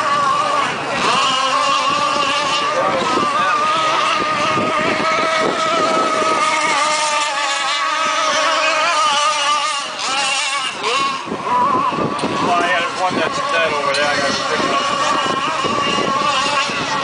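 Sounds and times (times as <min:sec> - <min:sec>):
small two-stroke boat engines whining: 0:00.0 - 0:17.0.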